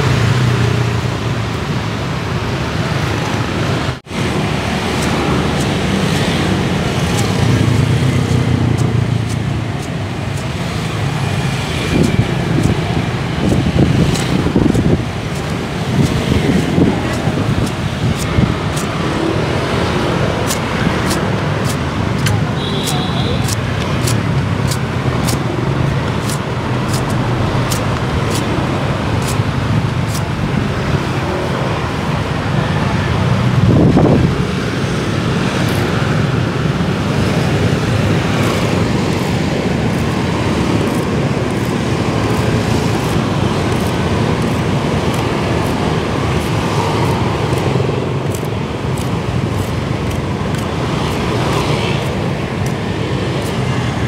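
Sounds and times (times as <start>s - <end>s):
street traffic: 0.0s - 54.0s
vehicle passing close: 0.0s - 54.0s
knife scraping sugarcane bark: 4.1s - 31.1s, 35.5s - 36.1s, 36.8s - 54.0s.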